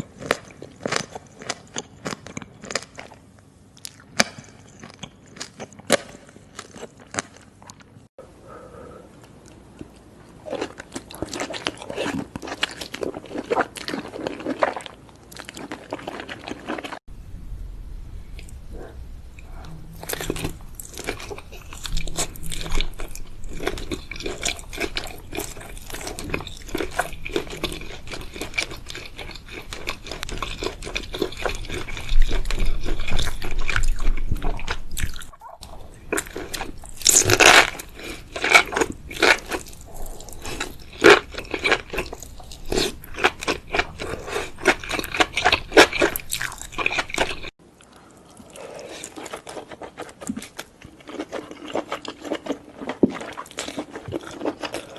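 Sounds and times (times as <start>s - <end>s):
wet chewing and crunching: 0.0s - 8.0s, 9.4s - 17.0s, 19.4s - 54.9s.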